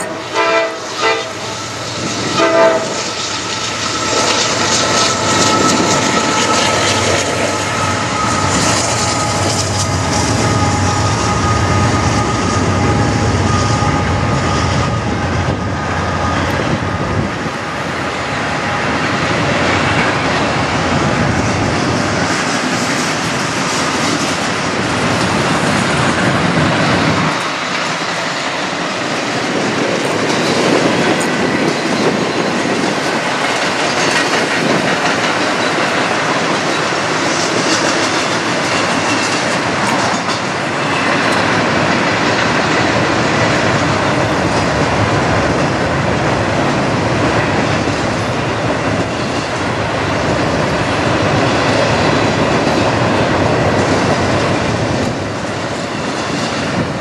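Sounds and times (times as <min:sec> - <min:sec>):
freight train rumbling: 0:00.0 - 0:57.0
wheels clacking over rail joints: 0:00.0 - 0:57.0.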